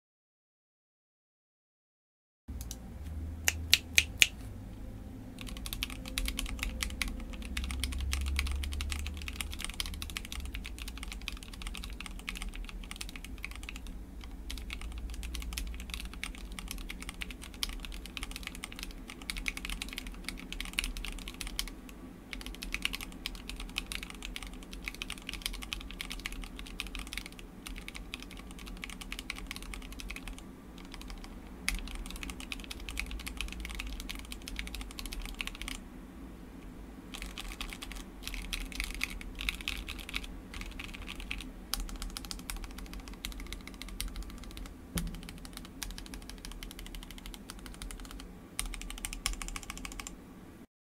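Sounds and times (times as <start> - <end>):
mechanical keyboard typing clacks: 5.4 - 21.7, 22.3 - 35.8, 37.1 - 50.1.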